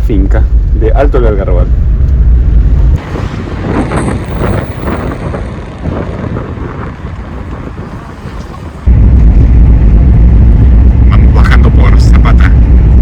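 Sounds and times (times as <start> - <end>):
vehicle and road noise: 0.0 - 13.0
wind on microphone: 1.7 - 13.0.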